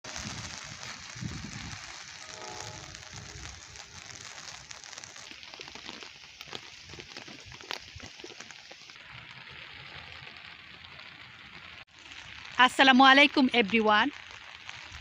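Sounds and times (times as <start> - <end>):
raindrops ticking on surfaces: 0.0 - 15.0
steady rain falling: 0.0 - 15.0.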